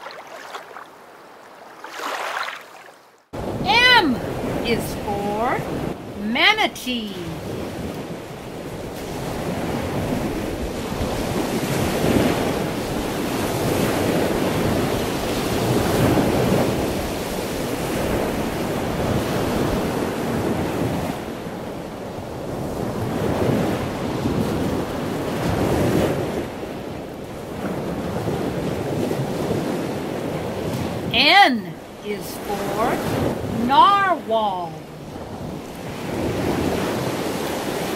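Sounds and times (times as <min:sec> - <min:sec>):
ocean surf rushing: 0:03.4 - 0:37.9.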